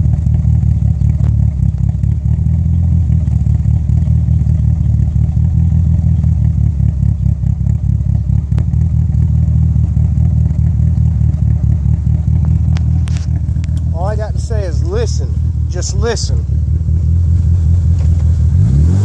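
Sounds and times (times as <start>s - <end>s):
car engine idling unevenly: 0.0s - 19.0s.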